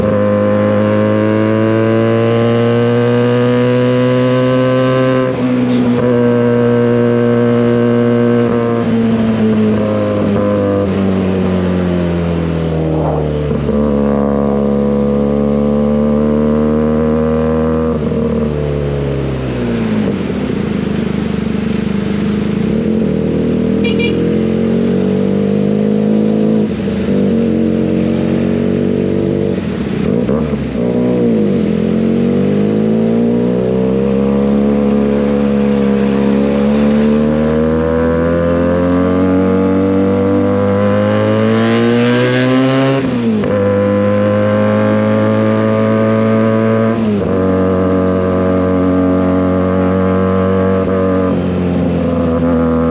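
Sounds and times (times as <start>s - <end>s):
motorcycle engine revving while riding: 0.0s - 52.9s.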